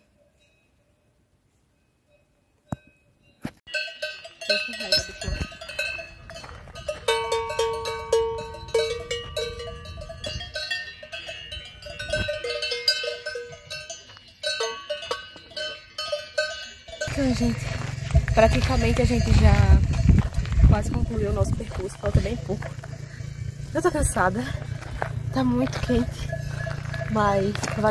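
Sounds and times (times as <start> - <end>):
cowbells clanging: 1.8 - 27.9.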